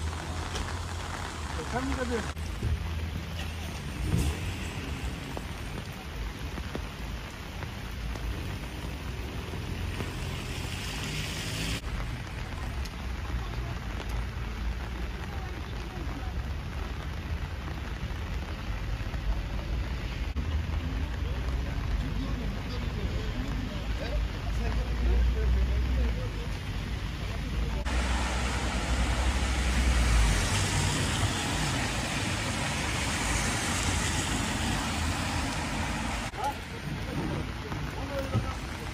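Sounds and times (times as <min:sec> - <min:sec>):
low traffic rumble: 0:00.0 - 0:38.9
rain hissing: 0:00.0 - 0:38.9.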